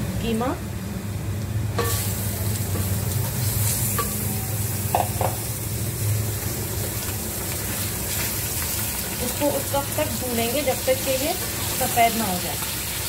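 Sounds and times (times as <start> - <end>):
mince sizzling in hot oil: 1.4 - 13.0.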